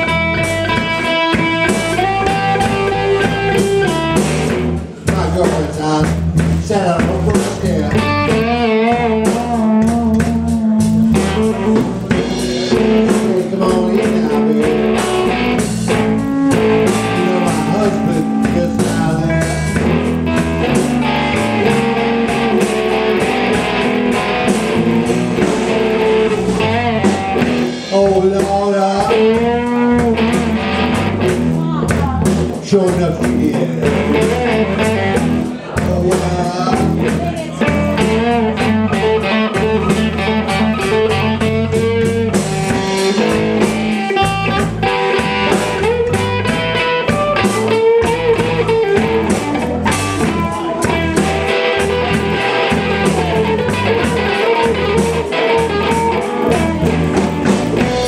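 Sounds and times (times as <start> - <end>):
blues band playing: 0.0 - 58.0
electric guitar bent notes: 0.0 - 58.0.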